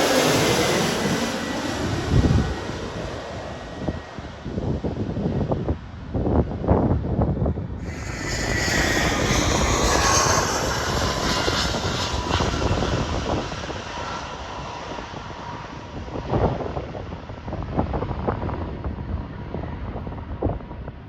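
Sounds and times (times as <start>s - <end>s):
jet airliner passing: 0.0s - 5.4s, 7.5s - 20.0s
wind buffeting microphone: 0.0s - 21.0s.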